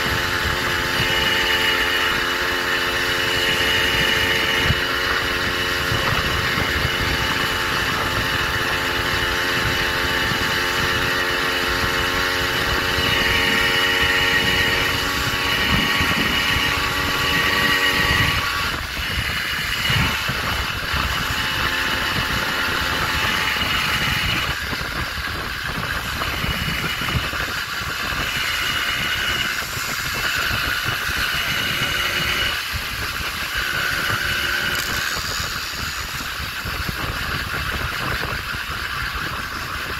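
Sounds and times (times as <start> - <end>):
small gas engine running: 0.0 - 39.9
wind rumbling on microphone: 0.0 - 39.9.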